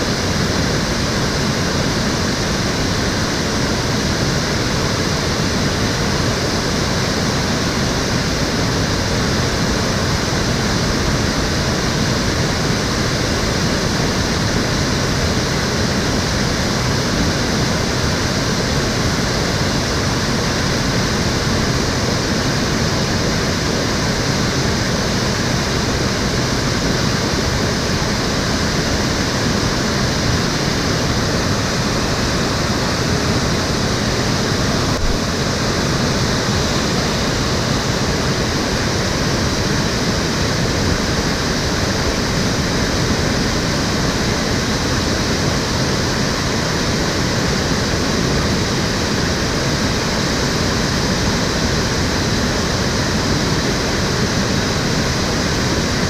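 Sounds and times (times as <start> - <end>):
stream water rushing and splashing: 0.0 - 56.0.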